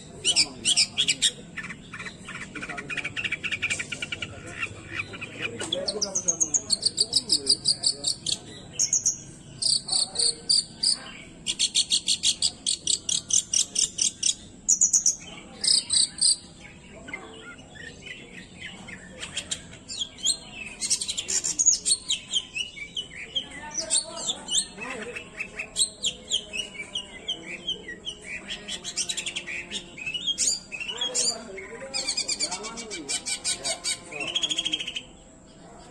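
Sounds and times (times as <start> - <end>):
shrike singing chattering notes: 0.2 - 35.2.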